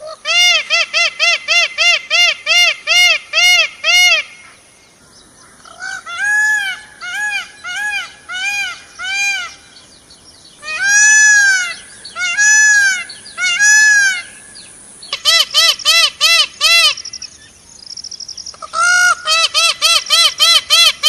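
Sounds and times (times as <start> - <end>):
peacock calling: 0.0 - 21.0.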